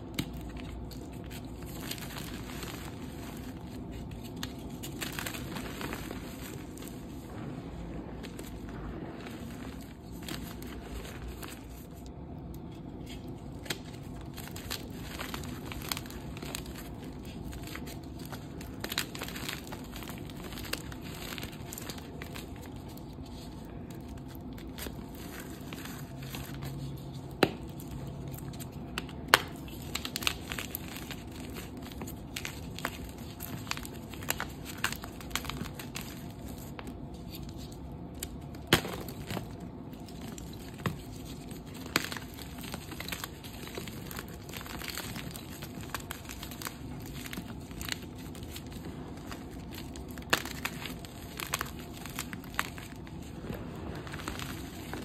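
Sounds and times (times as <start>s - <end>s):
chalk pieces snapping: 0.0s - 6.9s, 8.3s - 55.0s
chalk crumbling by hand: 0.0s - 55.0s.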